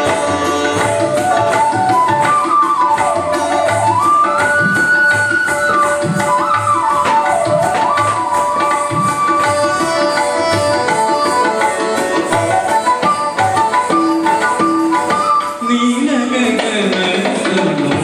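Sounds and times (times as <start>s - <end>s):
melody instrument holding notes: 0.0s - 16.5s
hand drum beat: 0.0s - 18.0s.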